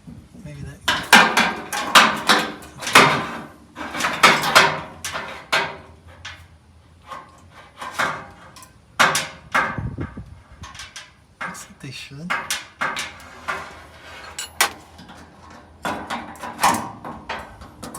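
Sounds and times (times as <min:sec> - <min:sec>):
metal knocks and clatters: 0:00.9 - 0:11.7, 0:12.3 - 0:17.9.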